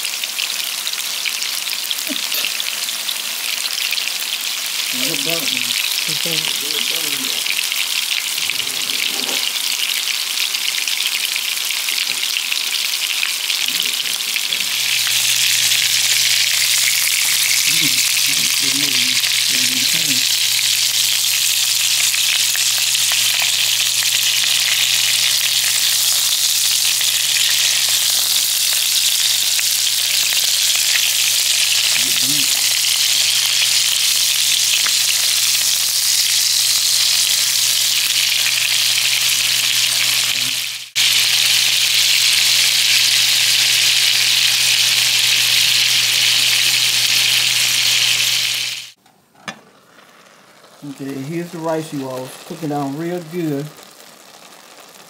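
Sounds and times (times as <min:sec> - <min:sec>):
patties sizzling: 0:00.0 - 0:55.0.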